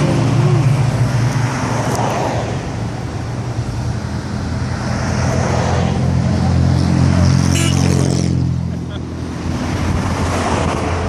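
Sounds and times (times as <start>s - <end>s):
car engines rumbling past: 0.0s - 11.0s
road noise: 0.0s - 11.0s.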